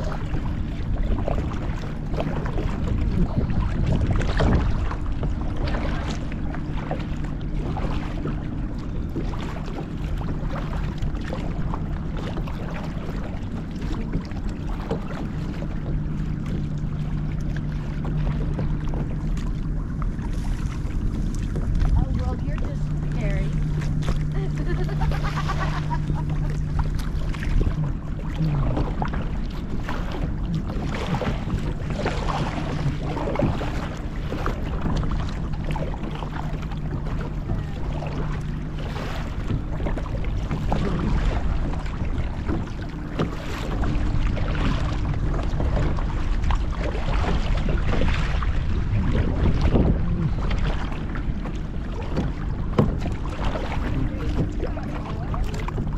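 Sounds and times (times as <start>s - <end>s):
wind buffeting microphone: 0.0s - 16.8s, 17.4s - 55.9s
paddle splashing and dripping: 0.0s - 55.9s.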